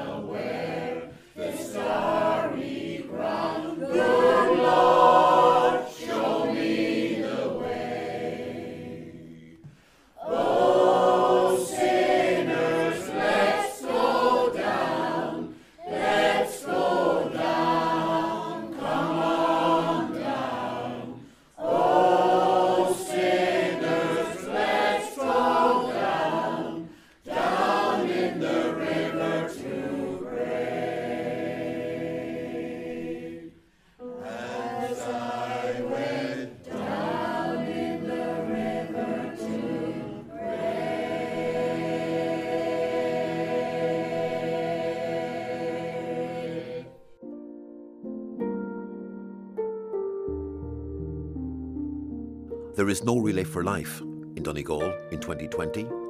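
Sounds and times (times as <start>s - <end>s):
choir singing: 0.0s - 47.2s.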